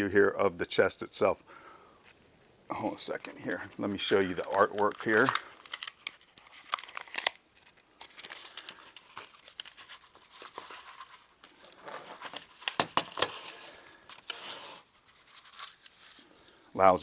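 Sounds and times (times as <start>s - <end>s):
paper rustling and crinkling: 2.0s - 16.6s.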